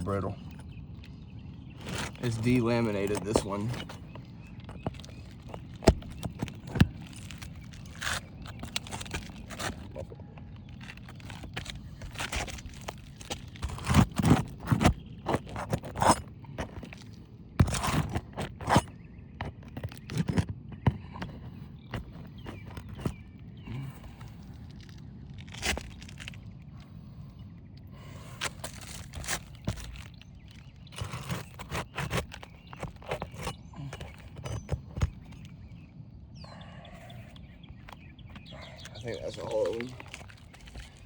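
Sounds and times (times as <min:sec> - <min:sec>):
sharp clicks of tearing shingles: 0:00.0 - 0:26.5, 0:28.0 - 0:35.6, 0:37.8 - 0:41.0
shingles scraping and crunching: 0:00.0 - 0:27.2, 0:28.0 - 0:35.9, 0:37.0 - 0:41.0.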